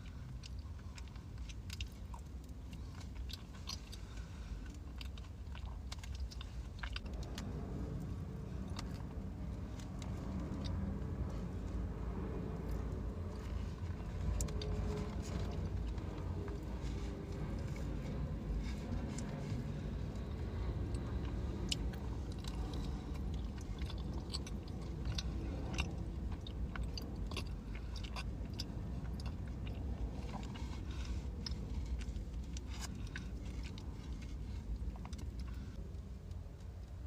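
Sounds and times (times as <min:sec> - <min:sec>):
low steady hum: 0:00.0 - 0:37.0
person chewing pastry: 0:00.0 - 0:37.0.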